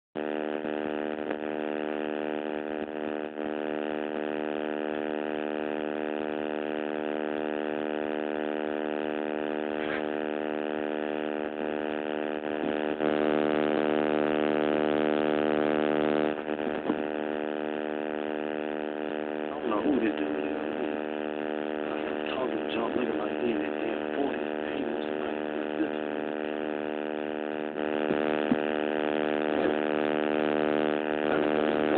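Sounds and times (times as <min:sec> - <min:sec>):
loud electrical buzz: 0:00.2 - 0:31.9.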